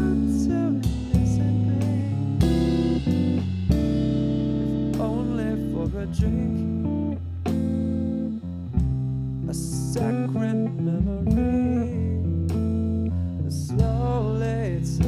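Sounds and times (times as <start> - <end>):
guitar-led instrumental music: 0.0 - 15.0.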